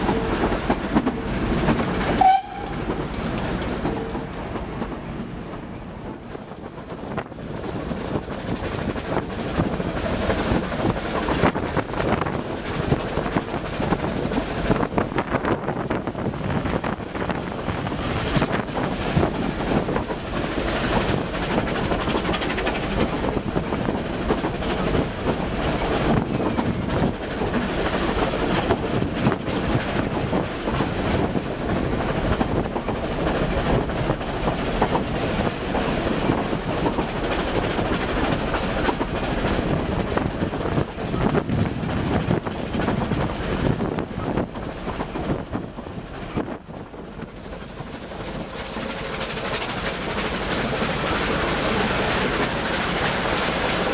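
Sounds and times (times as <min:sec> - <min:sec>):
steam train running: 0:00.0 - 0:53.9
wheels clicking over rail joints: 0:00.0 - 0:53.9.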